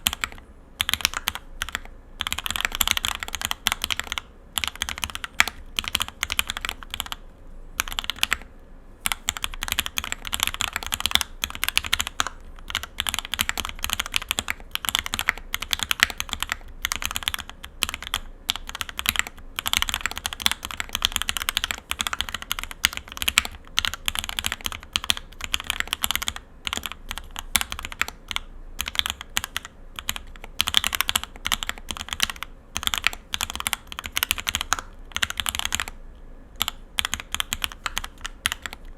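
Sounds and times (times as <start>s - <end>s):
mechanical keyboard typing: 0.0s - 7.2s, 7.8s - 36.0s, 36.6s - 38.9s.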